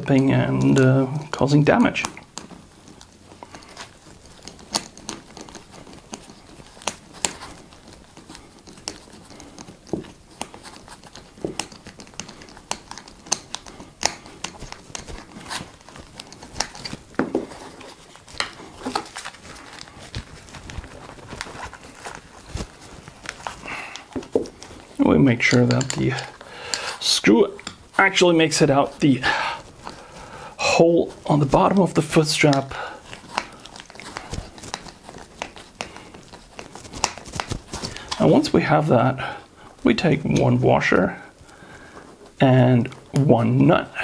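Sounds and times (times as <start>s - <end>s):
screwdriver clicking and scraping: 0.6s - 30.2s, 31.0s - 38.4s
hands handling a strap: 0.6s - 38.5s.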